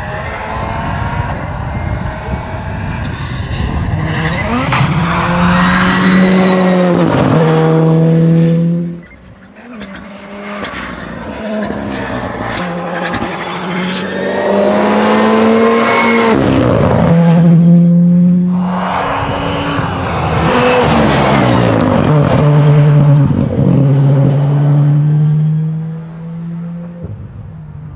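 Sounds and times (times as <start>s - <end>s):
rally car engine revving: 0.0s - 27.3s.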